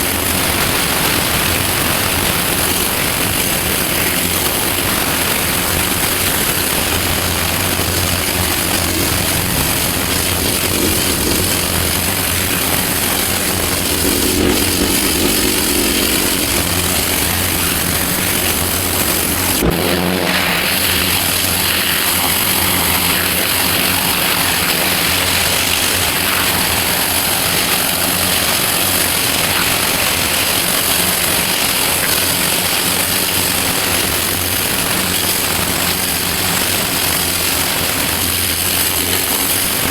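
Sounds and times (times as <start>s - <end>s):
high-pressure water jet hissing: 0.0s - 39.9s
pressure washer engine running: 0.0s - 39.9s.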